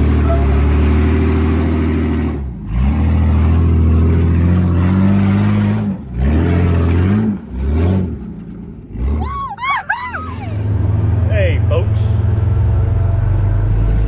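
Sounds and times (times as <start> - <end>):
engine revving under load: 0.0 - 9.4, 10.2 - 14.0.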